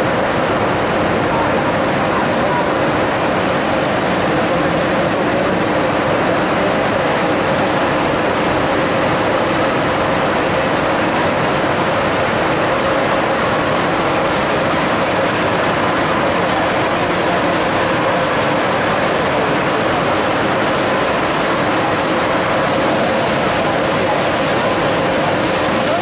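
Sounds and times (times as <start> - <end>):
electric trains rumbling: 0.0 - 26.0.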